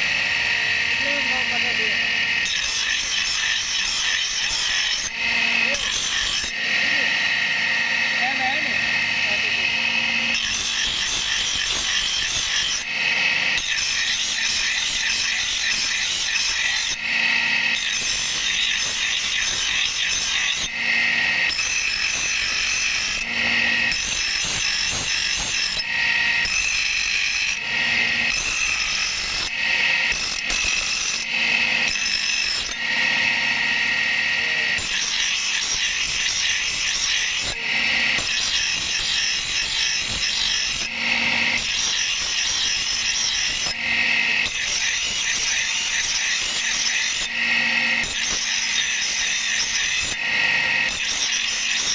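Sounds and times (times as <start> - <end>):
grinder motor hum: 0.0 - 51.9
grinder wheel grinding steel: 0.0 - 51.9.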